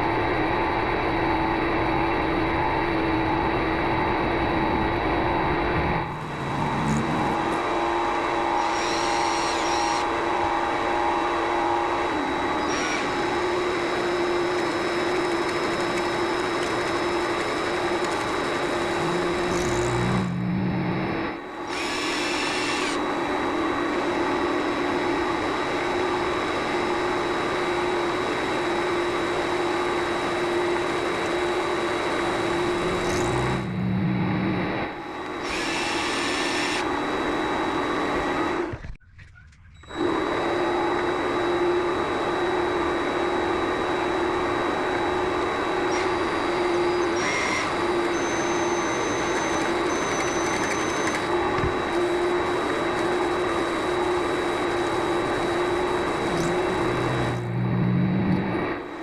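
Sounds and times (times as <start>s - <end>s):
lathe motor hum and whine: 0.0s - 39.0s, 39.8s - 59.0s.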